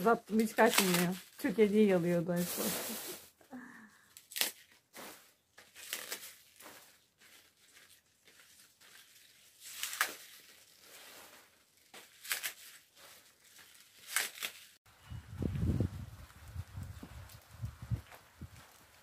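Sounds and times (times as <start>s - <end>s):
leafy greens rustling and tearing: 0.0s - 3.4s, 4.1s - 14.8s, 16.2s - 19.0s.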